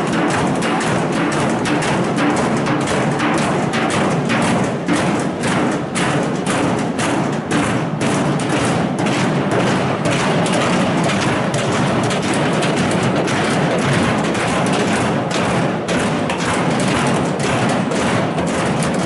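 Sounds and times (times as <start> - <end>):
crowd drumming and banging: 0.0 - 19.0.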